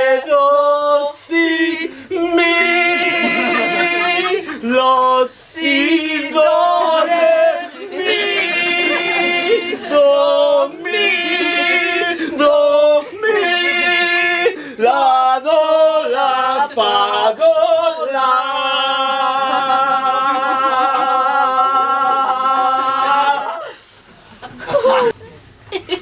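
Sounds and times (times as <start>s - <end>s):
man and woman singing: 0.0s - 23.8s.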